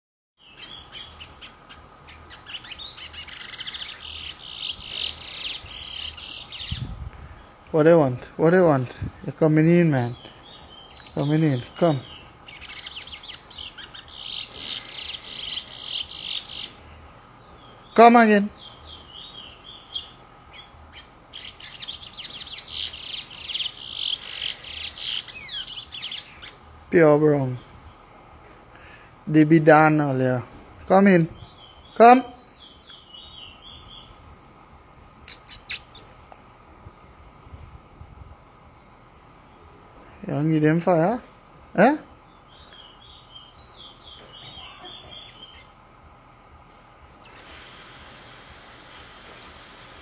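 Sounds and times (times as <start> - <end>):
songbirds chirping and trilling: 0.4 - 50.0.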